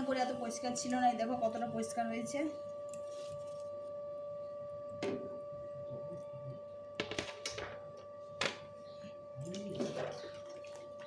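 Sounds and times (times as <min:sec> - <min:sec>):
steady high-pitched hum: 0:00.0 - 0:11.0.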